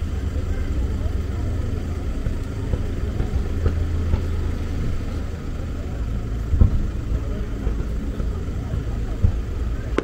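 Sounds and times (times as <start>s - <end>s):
fireworks rumbling bursts: 1.7s - 10.0s.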